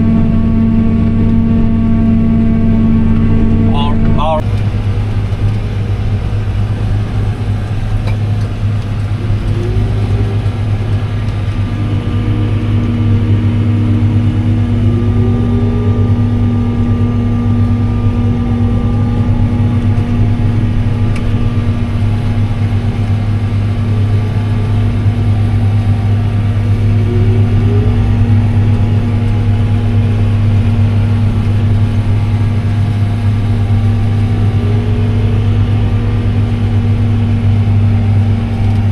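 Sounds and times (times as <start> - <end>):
farm machine engine drone: 0.0 - 38.9
whine rising and falling: 0.0 - 38.9.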